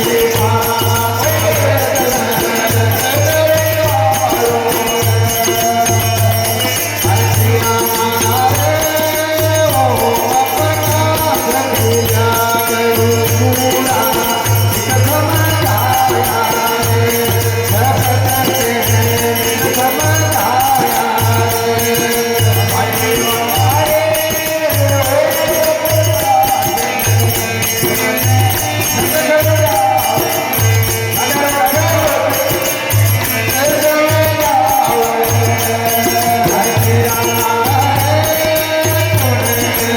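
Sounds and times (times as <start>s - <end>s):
jingling hand percussion: 0.0s - 39.9s.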